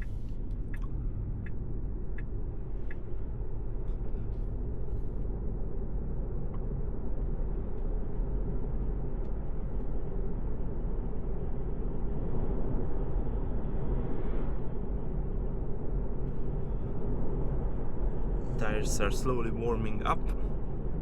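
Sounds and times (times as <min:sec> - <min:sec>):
road and tyre noise in car cabin: 0:00.0 - 0:21.0.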